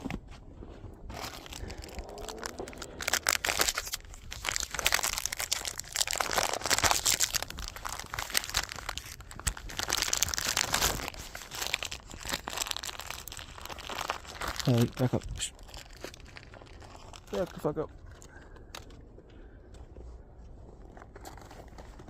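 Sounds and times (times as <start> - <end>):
bag or wrappers crinkling: 1.1 - 19.0.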